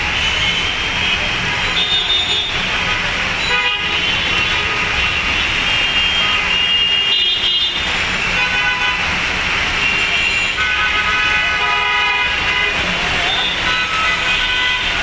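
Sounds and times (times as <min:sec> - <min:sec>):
heavy rain falling: 0:00.0 - 0:15.0
road traffic: 0:00.0 - 0:15.0
vehicle horns: 0:00.0 - 0:15.0.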